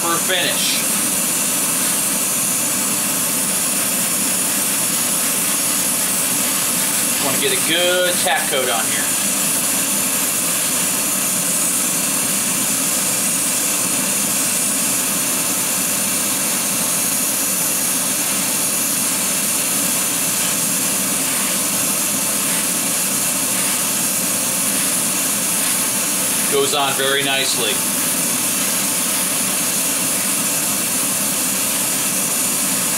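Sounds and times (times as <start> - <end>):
exhaust fan rushing: 0.0 - 32.9
airbrush spraying hiss: 0.4 - 32.9.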